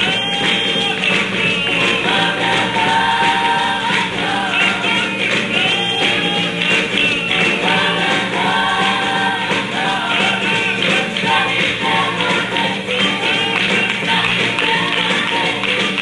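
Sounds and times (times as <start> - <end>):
congregation singing gospel: 0.0 - 16.0.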